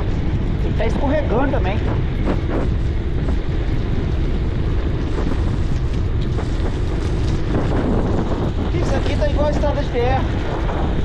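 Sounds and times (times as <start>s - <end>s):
tyre noise on rough asphalt: 0.0s - 11.0s
wind rumble on microphone: 0.0s - 11.0s.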